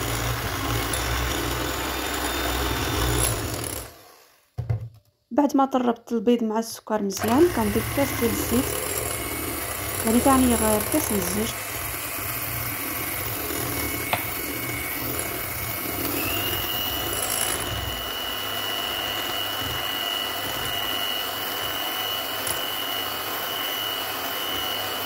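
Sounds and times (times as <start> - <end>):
electric hand mixer running: 0.0 - 4.4, 7.2 - 25.0.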